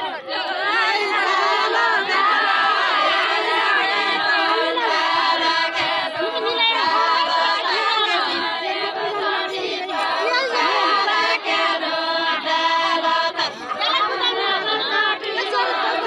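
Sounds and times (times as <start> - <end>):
people talking: 0.0 - 16.0
women singing unaccompanied: 0.0 - 16.0.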